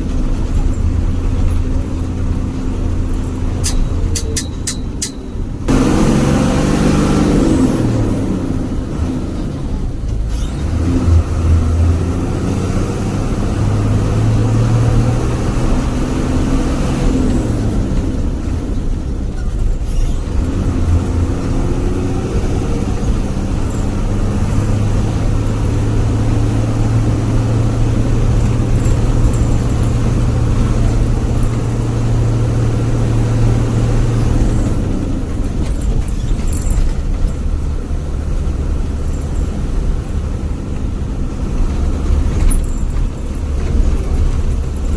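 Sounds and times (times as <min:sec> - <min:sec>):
diesel bus engine growling: 0:00.0 - 0:44.9.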